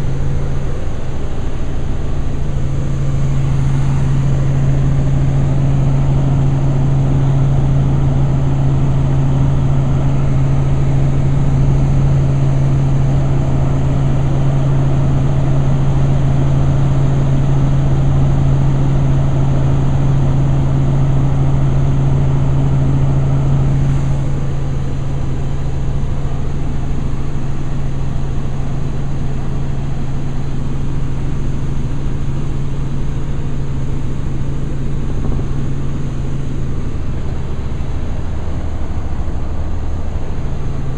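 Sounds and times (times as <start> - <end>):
helicopter drone from cabin: 0.0 - 40.9.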